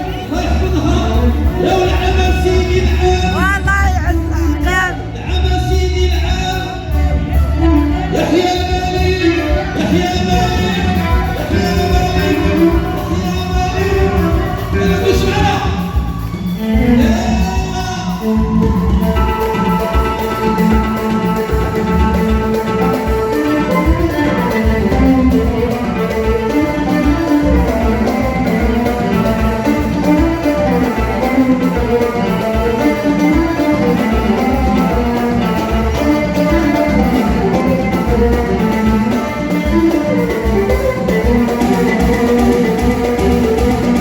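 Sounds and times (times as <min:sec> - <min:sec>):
steady drum beat: 0:00.0 - 0:44.0.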